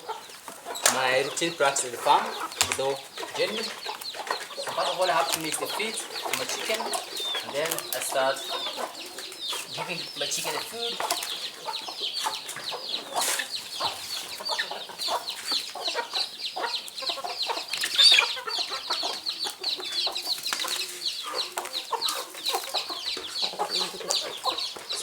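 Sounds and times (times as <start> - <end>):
chickens clucking: 0.0 - 25.0
chickens peeping: 0.0 - 25.0.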